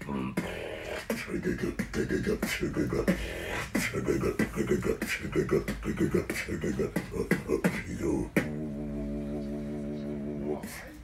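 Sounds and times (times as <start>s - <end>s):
beatboxing: 0.0s - 11.0s.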